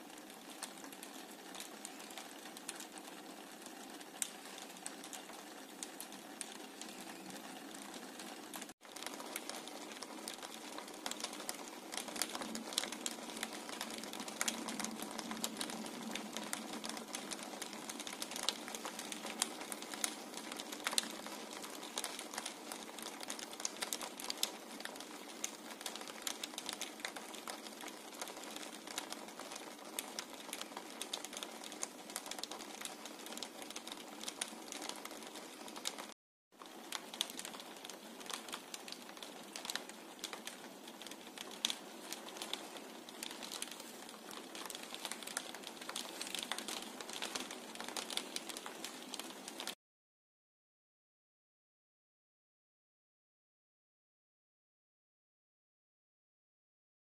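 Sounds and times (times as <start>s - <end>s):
raindrops tapping on window: 0.0s - 49.8s
steady rain hiss: 0.0s - 49.8s.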